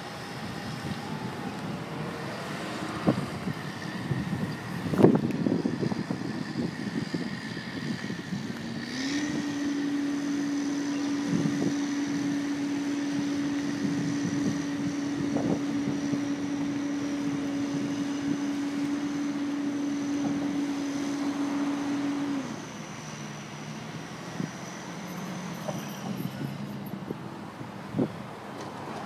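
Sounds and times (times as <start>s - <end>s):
crane engine revving: 0.0s - 29.0s.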